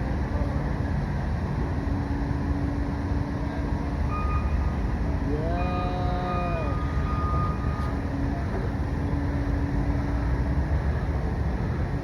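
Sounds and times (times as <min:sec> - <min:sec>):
passing train rumble: 0:00.0 - 0:12.0.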